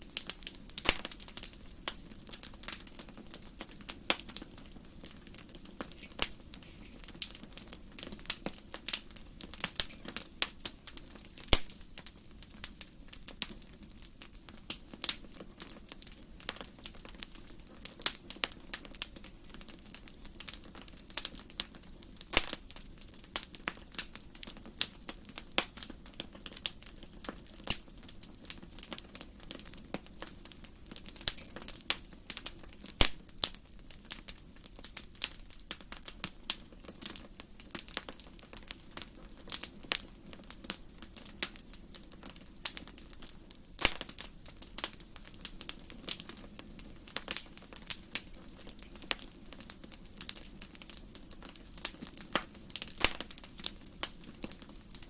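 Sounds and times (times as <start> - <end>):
wood fire crackling and popping: 0.0 - 55.0
hiss of flames: 0.1 - 55.0.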